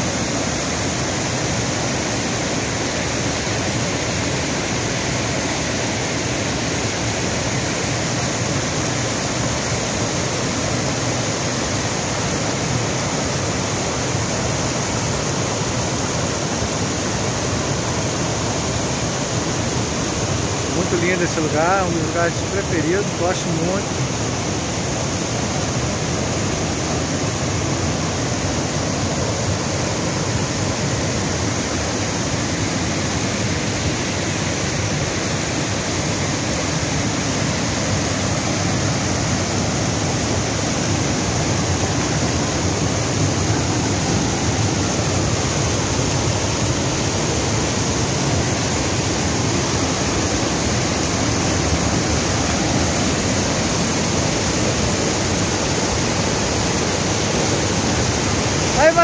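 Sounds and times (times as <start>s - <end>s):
river water rushing over rocks: 0.0s - 59.0s.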